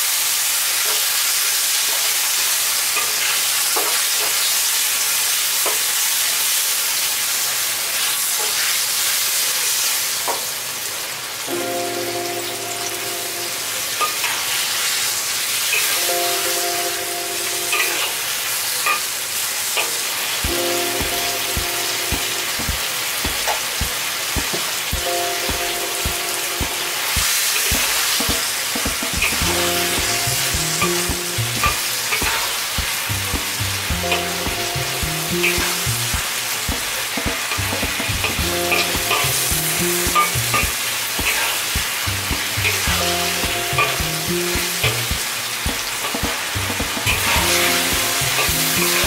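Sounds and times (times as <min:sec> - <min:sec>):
food sizzling in a wok: 0:00.0 - 0:49.0.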